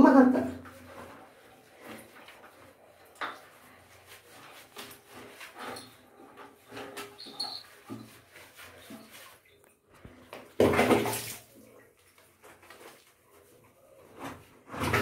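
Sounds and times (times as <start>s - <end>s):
wet fur rubbing and splashes: 0.2s - 15.0s.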